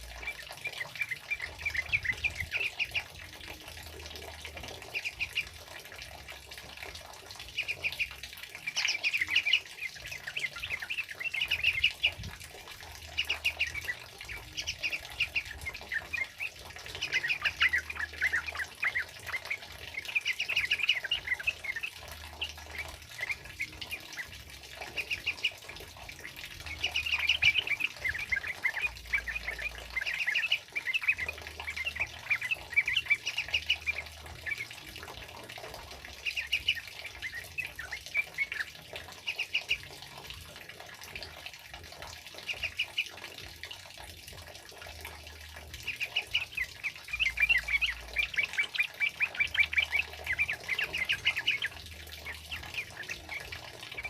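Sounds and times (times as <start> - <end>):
bulbuls singing: 0.0 - 44.0, 44.8 - 54.0.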